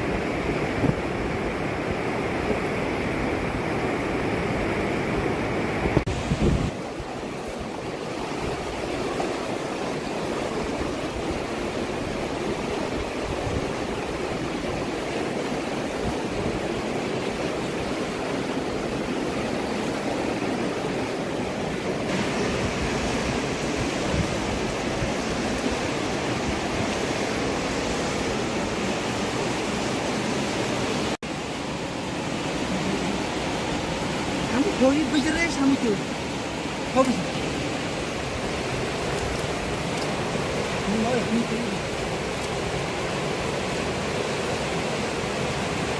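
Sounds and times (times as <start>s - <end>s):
river rushing: 0.0s - 45.9s.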